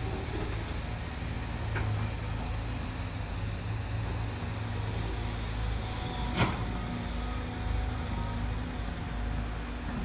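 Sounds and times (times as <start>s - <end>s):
diesel excavator engine running: 0.0s - 10.0s.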